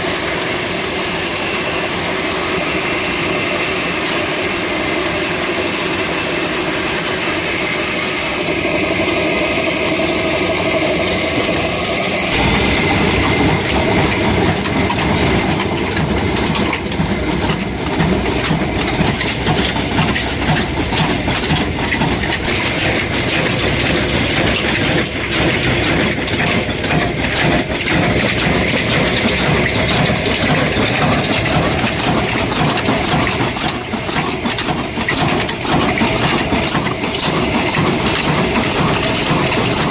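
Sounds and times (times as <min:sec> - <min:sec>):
engine running with hiss: 0:00.0 - 0:39.9.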